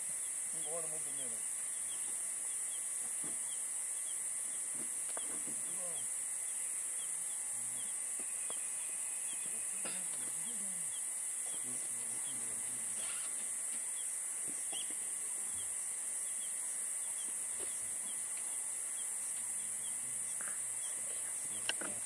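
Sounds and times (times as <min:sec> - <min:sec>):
high-pitched hiss: 0:00.0 - 0:22.0.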